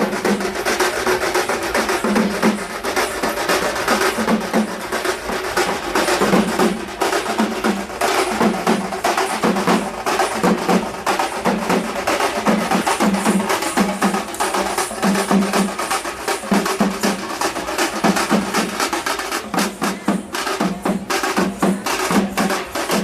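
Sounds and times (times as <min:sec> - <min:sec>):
fast drum-led percussion music: 0:00.0 - 0:23.0.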